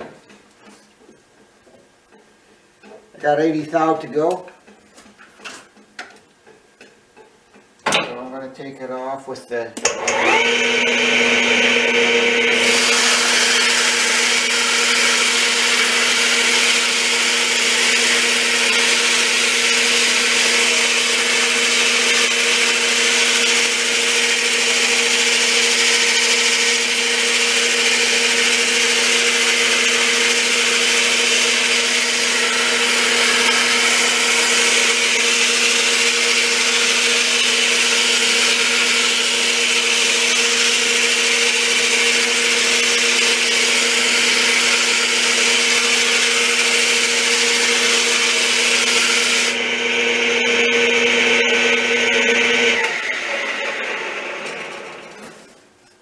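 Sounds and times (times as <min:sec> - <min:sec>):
lathe motor hum: 0:09.9 - 0:55.1.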